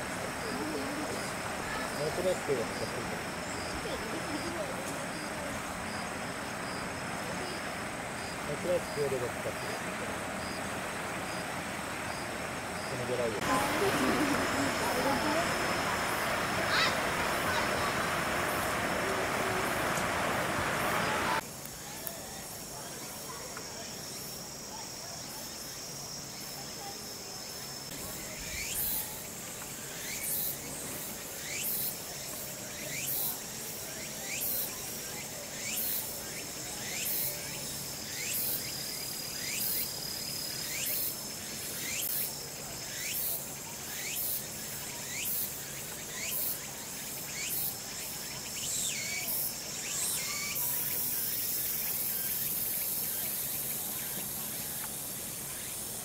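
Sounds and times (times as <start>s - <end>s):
insect high buzz: 0.0s - 56.0s
insect song: 0.0s - 56.0s.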